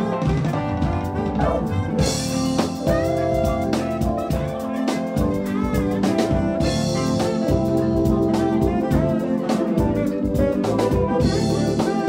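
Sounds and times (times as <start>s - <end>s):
drum kit beat: 0.0s - 12.0s
held keyboard chords: 0.0s - 12.0s
live band playing: 0.0s - 12.0s.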